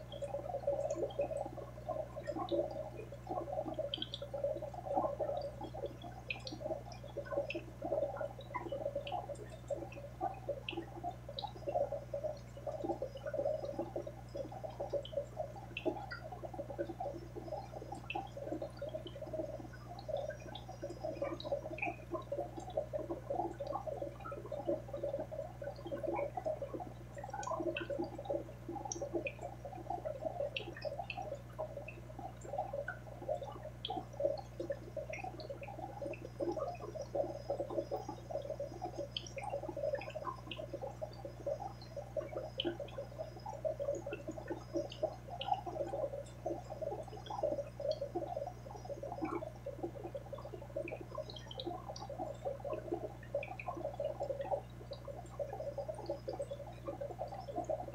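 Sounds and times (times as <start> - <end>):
aquarium water bubbling: 0.0 - 57.9
low steady hum: 0.0 - 57.9.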